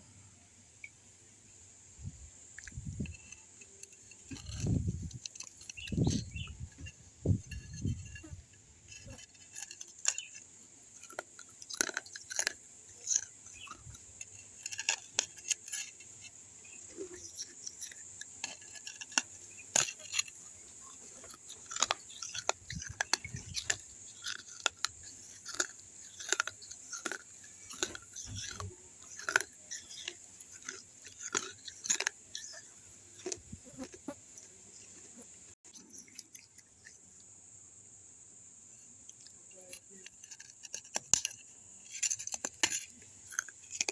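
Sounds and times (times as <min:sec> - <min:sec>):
clay crunching in mouth: 0:02.5 - 0:37.3, 0:39.1 - 0:43.9.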